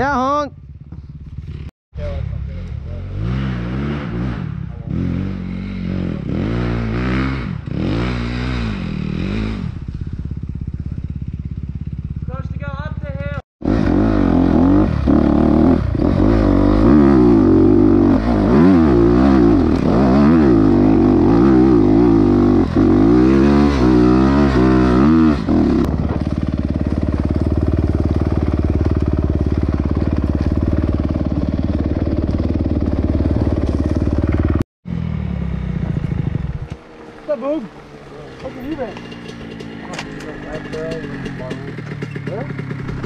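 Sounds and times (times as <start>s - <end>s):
dirt bike engine revving: 2.8s - 43.0s.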